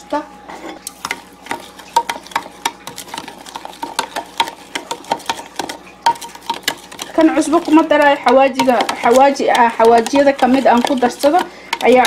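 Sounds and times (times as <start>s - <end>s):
metal spoon clinking on containers: 1.0s - 12.0s.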